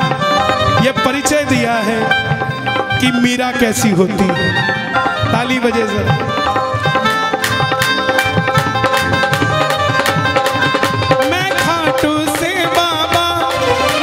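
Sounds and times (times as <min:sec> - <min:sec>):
hand drums beating: 0:00.0 - 0:14.0
held melodic notes: 0:00.0 - 0:14.0
wavering melody line: 0:00.0 - 0:14.0.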